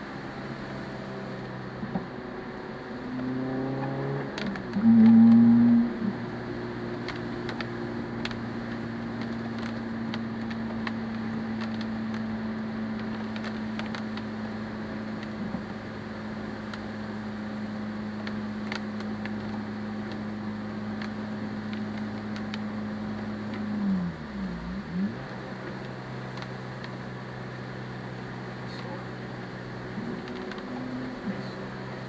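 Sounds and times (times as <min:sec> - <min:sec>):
car engine hum in cabin: 0:00.0 - 0:32.0
rain: 0:00.0 - 0:32.0.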